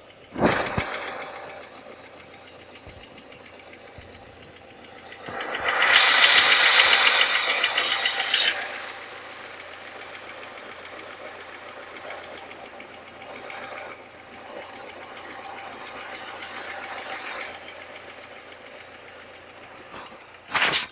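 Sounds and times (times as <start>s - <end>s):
engine running with knocking: 0.0s - 20.9s.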